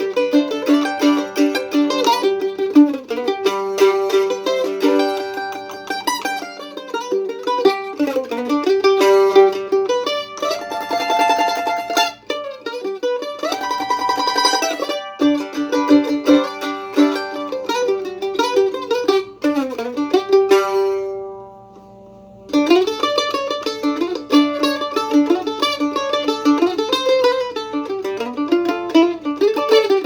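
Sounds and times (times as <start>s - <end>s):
solo mandolin melody: 0.0s - 30.0s.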